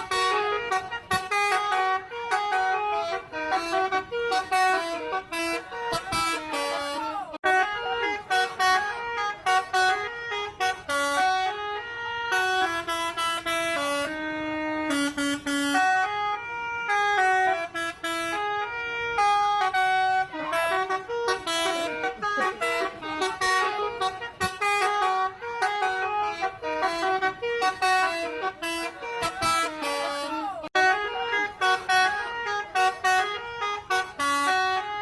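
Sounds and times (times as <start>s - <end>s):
multi-tone air horn tune: 0.0s - 35.0s.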